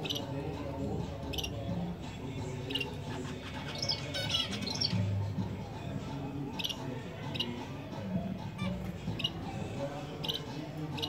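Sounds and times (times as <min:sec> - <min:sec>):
finches chirping: 0:00.0 - 0:05.3, 0:06.4 - 0:07.8, 0:08.5 - 0:11.0
background music: 0:00.0 - 0:11.0.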